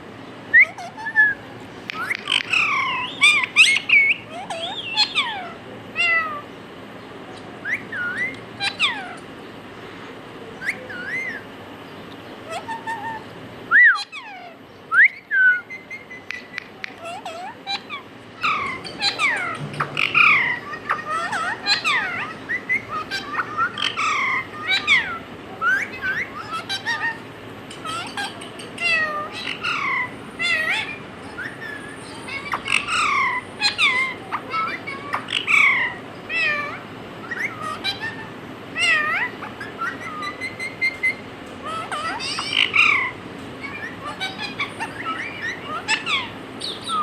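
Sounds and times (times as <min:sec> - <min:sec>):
parrot chirping and squawking: 0:00.6 - 0:06.5, 0:07.3 - 0:09.4, 0:10.6 - 0:11.5, 0:12.4 - 0:47.0.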